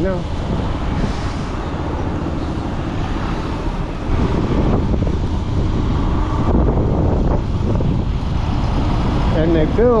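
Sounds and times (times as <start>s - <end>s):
vehicle running on road: 0.0s - 10.0s
wind buffeting microphone: 0.0s - 10.0s.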